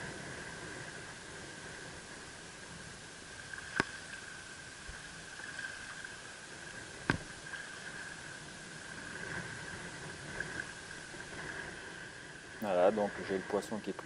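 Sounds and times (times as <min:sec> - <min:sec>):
faint steady whine: 0:00.0 - 0:14.0
wind and sea hiss: 0:00.0 - 0:14.0.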